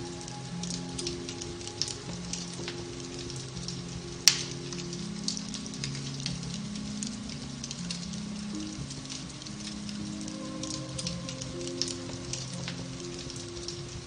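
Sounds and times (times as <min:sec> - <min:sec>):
log fire crackling: 0:00.0 - 0:14.0
soft slow music: 0:00.0 - 0:14.0.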